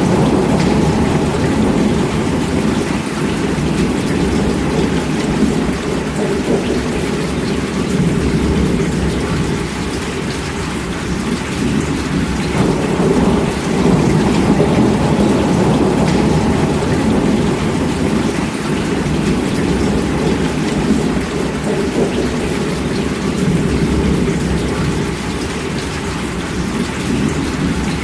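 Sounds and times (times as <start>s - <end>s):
low thunder rumble: 0.0s - 25.8s
heavy rain: 0.0s - 28.0s.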